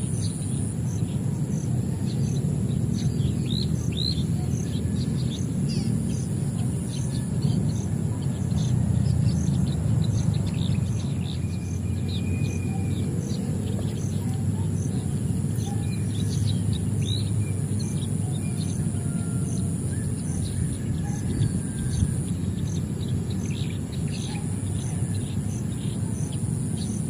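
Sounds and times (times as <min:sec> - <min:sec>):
high insect drone: 0:00.0 - 0:27.0
small birds chirping: 0:00.0 - 0:27.0.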